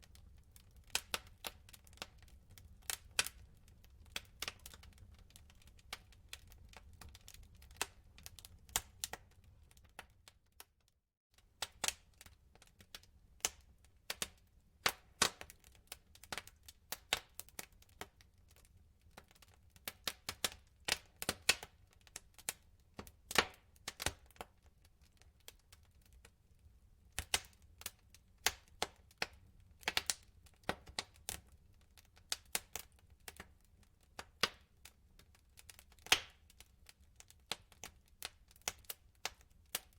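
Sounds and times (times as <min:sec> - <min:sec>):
wood fire crackling: 0:00.0 - 0:10.8, 0:11.4 - 0:39.9.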